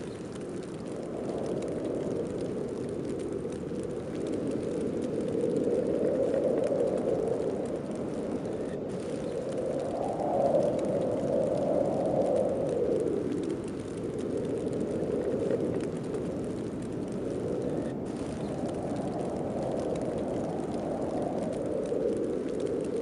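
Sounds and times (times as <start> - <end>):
snowstorm wind blowing: 0.0 - 23.0.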